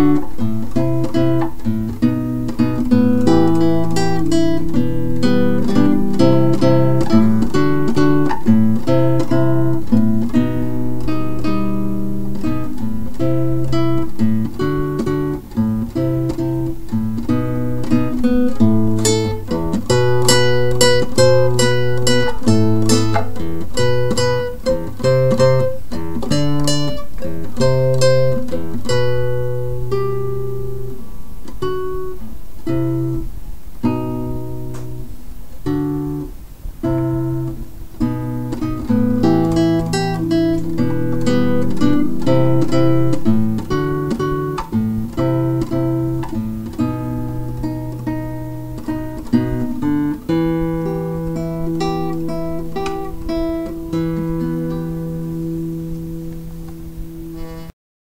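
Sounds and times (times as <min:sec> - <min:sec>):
acoustic guitar music: 0:00.0 - 0:57.8.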